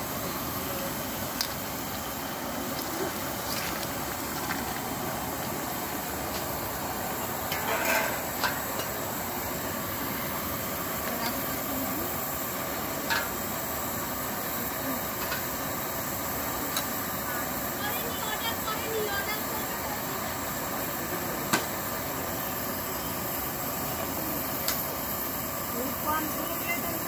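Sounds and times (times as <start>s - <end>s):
curry boiling hard: 0.0s - 27.0s
gas burner hissing: 0.0s - 27.0s.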